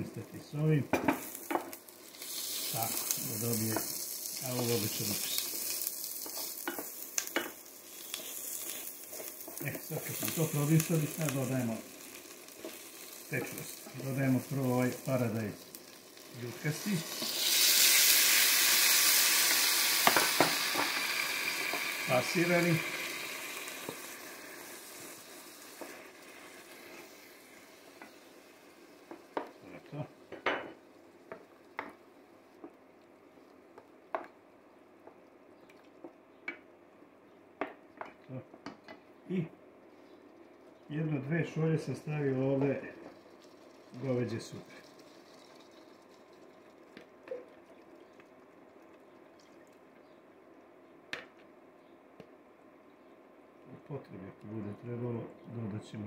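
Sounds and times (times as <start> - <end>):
vegetables sizzling in a pot: 0.0 - 34.4, 37.6 - 50.2, 53.7 - 56.0.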